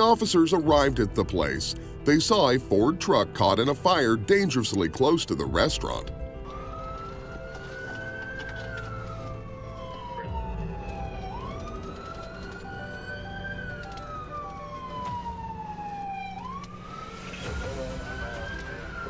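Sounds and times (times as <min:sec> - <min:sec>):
police siren wailing: 0:00.0 - 0:02.5, 0:05.0 - 0:19.0
car engine and road noise: 0:00.0 - 0:19.0.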